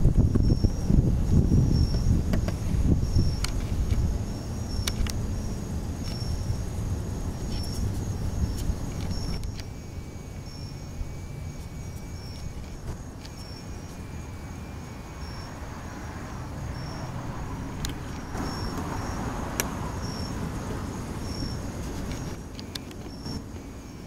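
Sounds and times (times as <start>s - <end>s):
crickets chirping: 0.0s - 24.0s
high insect trill: 0.0s - 24.0s
wind rumble on microphone: 0.0s - 24.0s.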